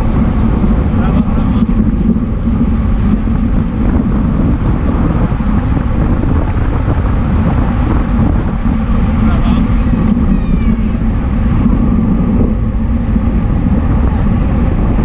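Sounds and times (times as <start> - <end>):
bike tyres rolling on asphalt: 0.0 - 15.0
wind buffeting microphone: 0.0 - 15.0.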